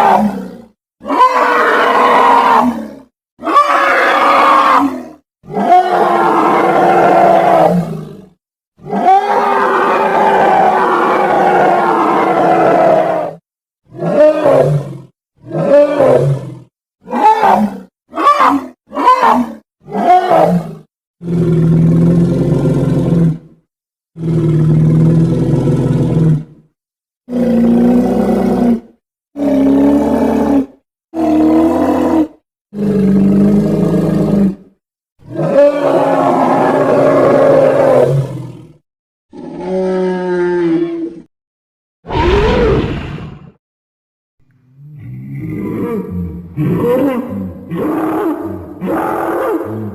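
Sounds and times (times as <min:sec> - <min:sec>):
gorilla roars and grunts: 0:00.0 - 0:23.5, 0:24.1 - 0:26.5, 0:27.3 - 0:41.3, 0:42.0 - 0:43.6, 0:44.8 - 0:49.9.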